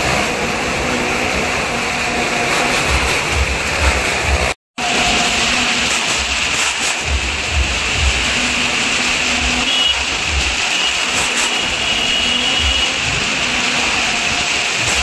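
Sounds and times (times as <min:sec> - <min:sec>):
car engine running at speed: 0:00.0 - 0:15.0.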